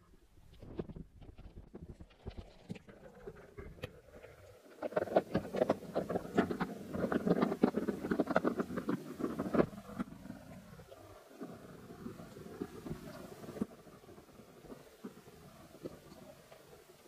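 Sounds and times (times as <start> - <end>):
underwater clicking and crackling: 0.0 - 17.0.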